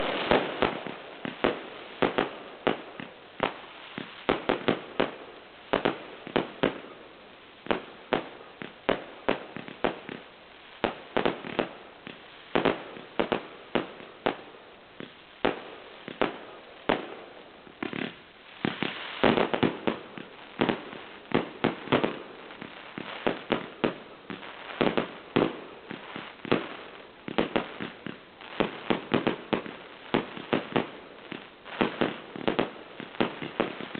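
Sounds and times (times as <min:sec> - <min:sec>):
firework bangs echoing: 0:00.0 - 0:07.0, 0:07.6 - 0:33.9.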